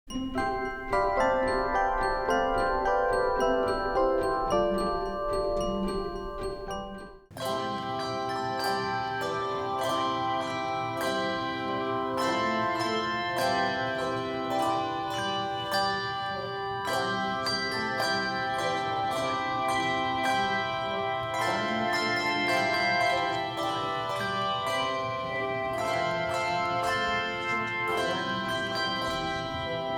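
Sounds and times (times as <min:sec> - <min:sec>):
handbell choir playing: 0:00.1 - 0:29.9.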